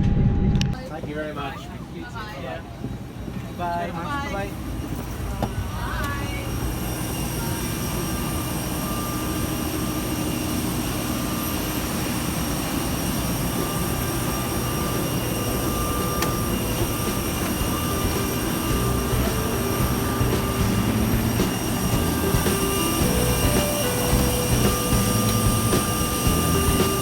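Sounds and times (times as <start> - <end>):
aircraft cabin hum and rushing air: 0.0 - 27.0
thin steady whine tones: 0.7 - 27.0.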